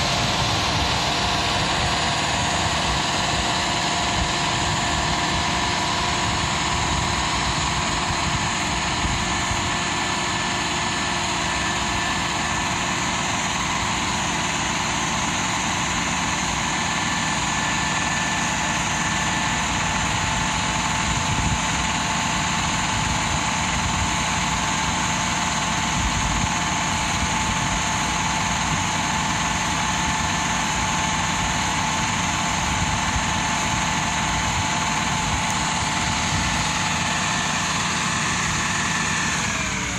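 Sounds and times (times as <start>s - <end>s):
constant whine: 0.0s - 39.9s
engine rumble: 0.0s - 39.9s.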